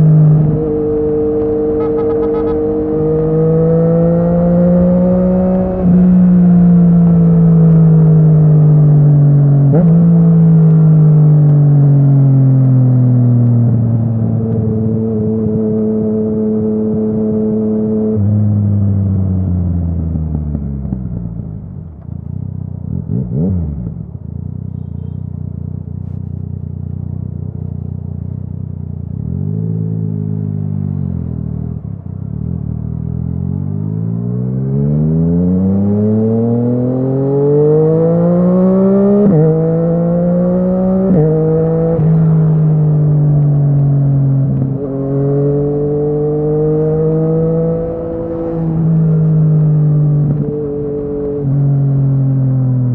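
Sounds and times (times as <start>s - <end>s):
motorcycle engine revving and shifting: 0.0s - 52.9s.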